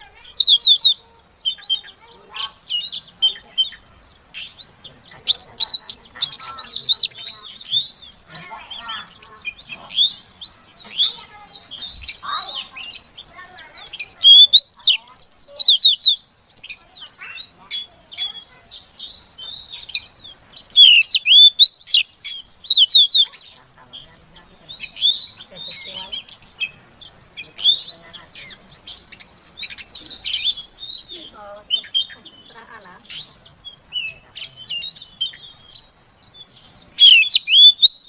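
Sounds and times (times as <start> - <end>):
bird high chirps and whistles: 0.0 - 38.0.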